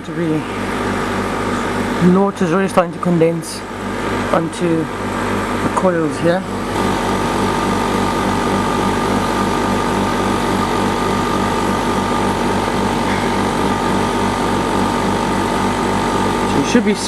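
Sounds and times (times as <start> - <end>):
air conditioner running: 0.0 - 17.0.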